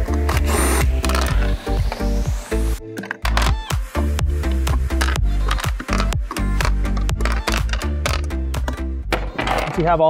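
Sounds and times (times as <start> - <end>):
electronic music with beat: 0.0 - 9.1.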